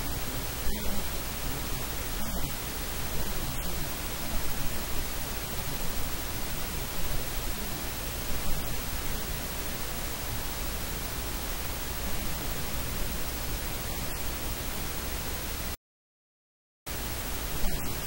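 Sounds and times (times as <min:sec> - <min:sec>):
static hiss: 0:00.0 - 0:15.8, 0:16.9 - 0:18.0.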